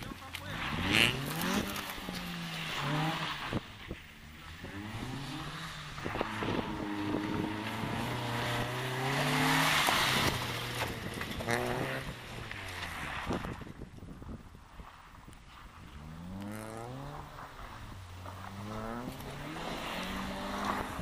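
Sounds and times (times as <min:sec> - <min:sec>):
rally car engine revving: 0:00.0 - 0:13.8, 0:15.8 - 0:21.0
gravel and tyre noise: 0:00.0 - 0:21.0.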